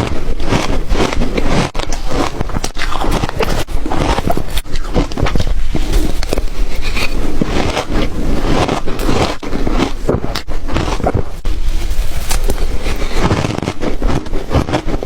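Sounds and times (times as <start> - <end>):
ice crunching being chewed: 0.0 - 15.0
swallowing: 0.0 - 15.0.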